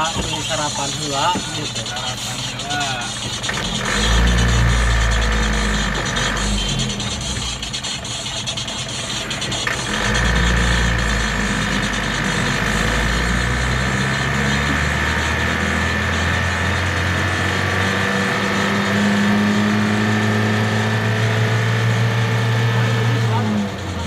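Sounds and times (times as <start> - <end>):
steady high whine: 0.0 - 24.0
truck engine pulling hard: 0.0 - 24.0.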